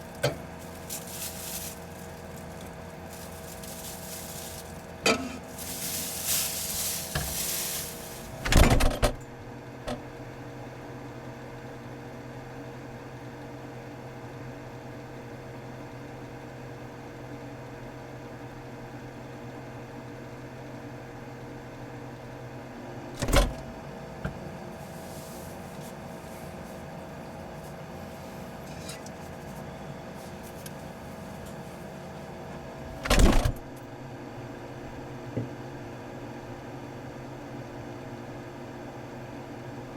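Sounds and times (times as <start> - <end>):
refrigerator hum: 0.0 - 39.9.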